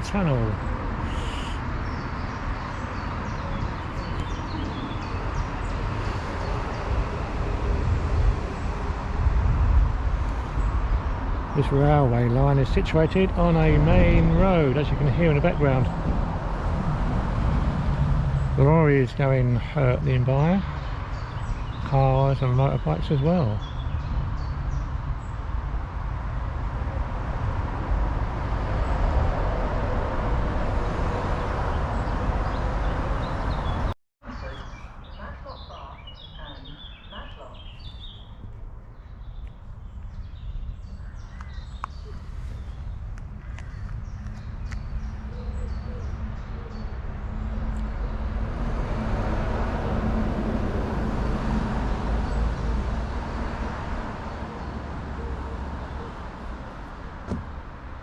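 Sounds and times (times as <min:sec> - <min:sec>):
birds chirping: 0:00.0 - 0:09.1, 0:09.8 - 0:17.5, 0:18.2 - 0:25.6, 0:30.8 - 0:50.1, 0:50.8 - 0:57.8
road traffic rumble: 0:00.0 - 0:58.0.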